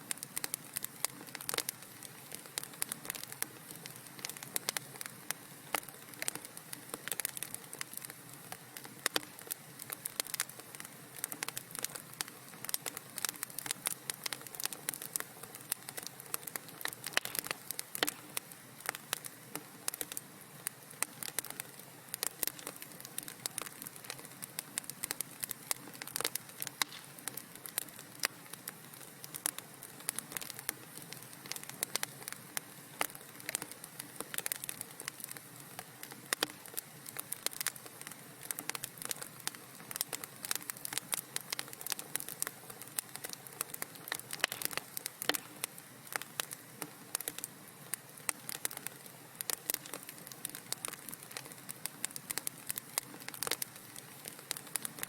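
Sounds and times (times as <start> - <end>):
soft hiss: 0.0 - 55.0
wood fire crackling: 0.0 - 55.0
fire pops and snaps: 0.1 - 55.0.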